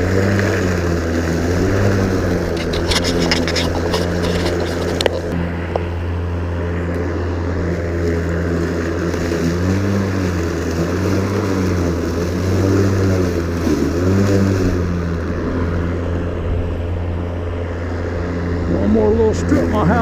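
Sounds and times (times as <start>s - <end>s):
electric lawn mower cutting grass: 0.0s - 20.0s.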